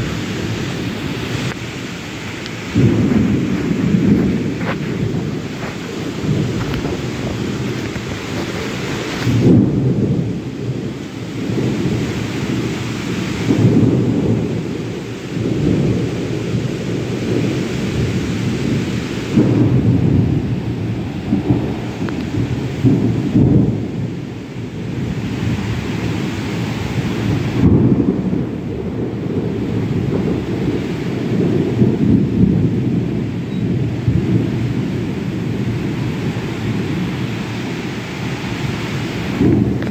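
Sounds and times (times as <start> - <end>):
deep rumbling wind surges: 0.0 - 39.9
heavy rain pouring: 0.0 - 39.9.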